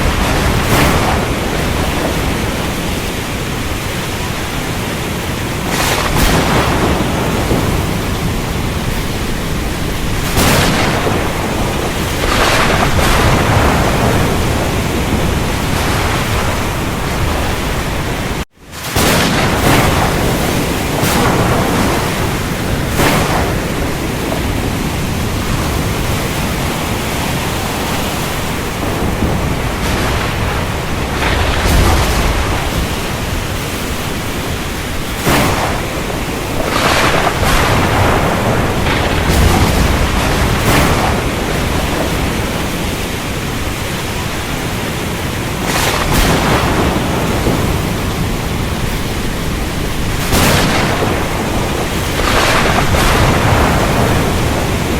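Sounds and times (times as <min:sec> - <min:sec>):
heavy rain: 0:00.0 - 0:54.9
low rolling thunder: 0:00.0 - 0:54.9
sharp thunder cracks: 0:00.0 - 0:54.9.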